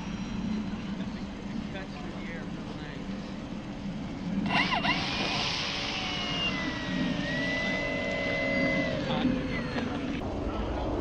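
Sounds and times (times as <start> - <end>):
electric ducted fan whine: 0.0 - 11.0.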